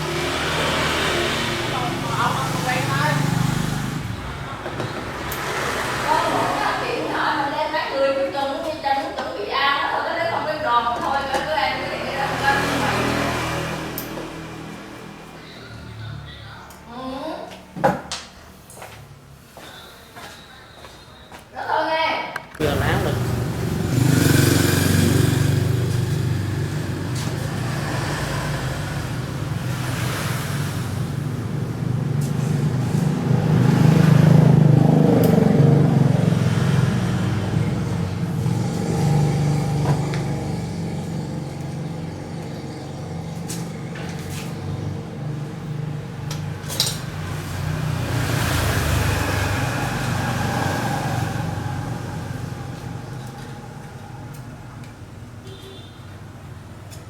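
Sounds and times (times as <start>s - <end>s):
vehicles passing: 0.0s - 20.4s, 21.9s - 57.0s.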